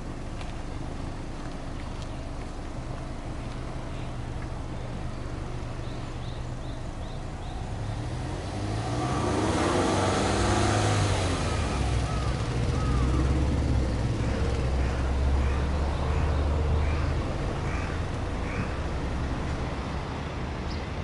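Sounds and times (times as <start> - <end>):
car exhaust idling and revving: 0.0 - 19.9.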